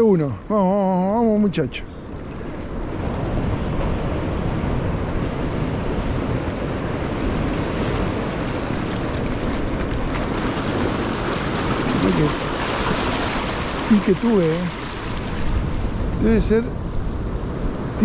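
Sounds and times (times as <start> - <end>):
waves washing on shore: 2.0 - 18.0
wind blowing across microphone: 2.0 - 18.0.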